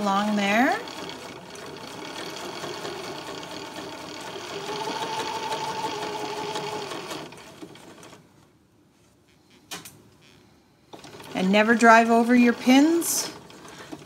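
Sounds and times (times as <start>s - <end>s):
sewing machine stitching: 0.0s - 8.2s, 10.2s - 14.0s.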